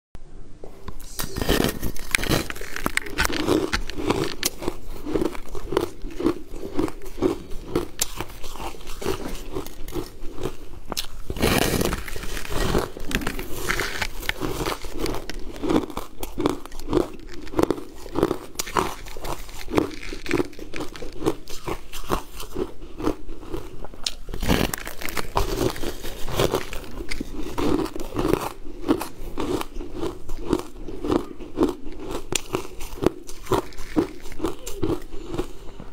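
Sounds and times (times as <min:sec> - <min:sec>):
crunching and chewing ice: 0:01.2 - 0:35.9.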